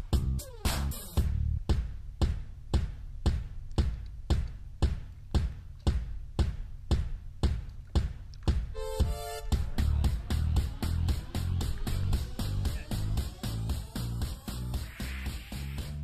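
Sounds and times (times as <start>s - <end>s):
low bass: 0.0s - 7.1s, 9.0s - 16.0s
drum beat: 0.0s - 16.0s.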